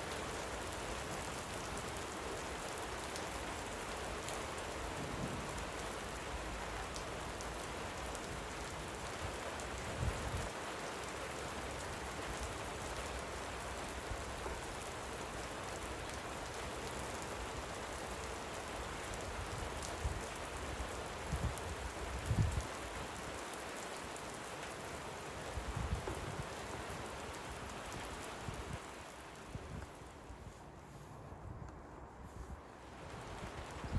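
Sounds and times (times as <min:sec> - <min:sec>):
light rain falling: 0:00.0 - 0:33.9.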